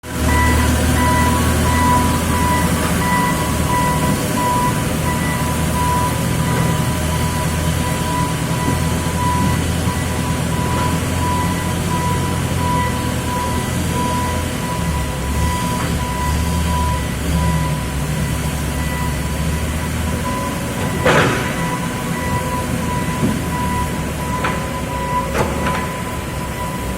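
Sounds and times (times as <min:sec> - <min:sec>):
baling press motor humming: 0:00.1 - 0:26.9.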